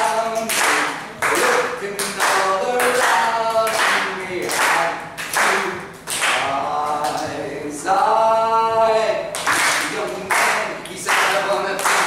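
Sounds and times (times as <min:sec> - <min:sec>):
hand claps: 0:00.0 - 0:07.3, 0:09.3 - 0:12.0
man singing: 0:00.0 - 0:12.0.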